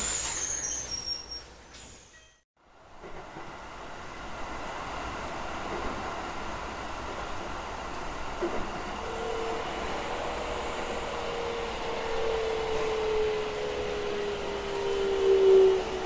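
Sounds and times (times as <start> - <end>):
train rail running noise: 0.0 - 16.0
train inverter whine: 2.8 - 16.0.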